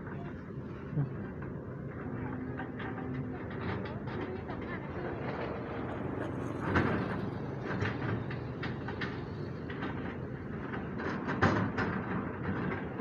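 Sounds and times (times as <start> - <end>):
excavator engine rumble: 0.0 - 13.0
clanks and knocks: 0.4 - 13.0.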